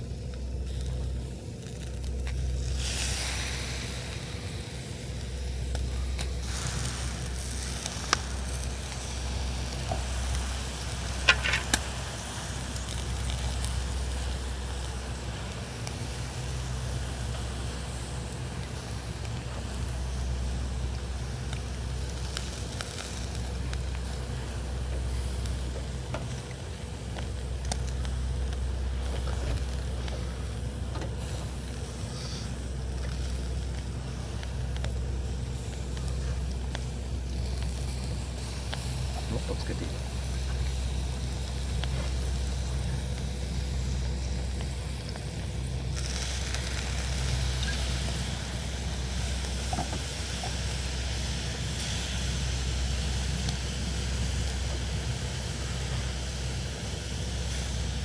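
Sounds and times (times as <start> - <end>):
low rumble: 0.0 - 51.6
campfire crackles: 0.0 - 58.0
fish sizzling on grill: 0.0 - 58.0.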